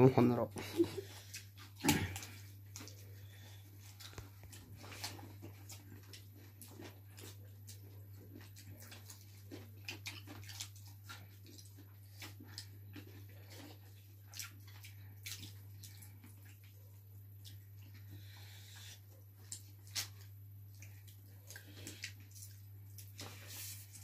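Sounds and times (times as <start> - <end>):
people chewing chicken: 0.2 - 24.0.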